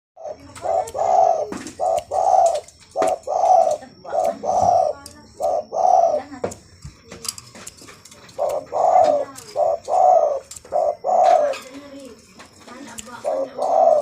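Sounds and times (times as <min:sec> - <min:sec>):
dove cooing: 0:00.2 - 0:07.3, 0:07.9 - 0:14.0.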